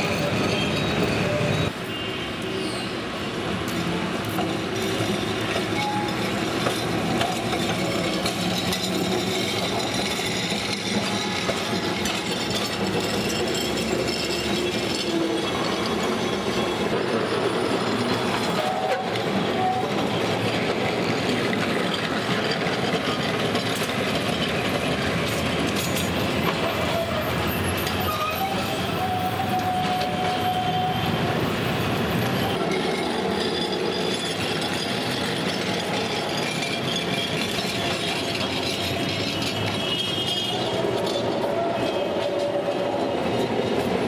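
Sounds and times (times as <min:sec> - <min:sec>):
tram wheels clattering on rails: 0:00.0 - 0:44.0.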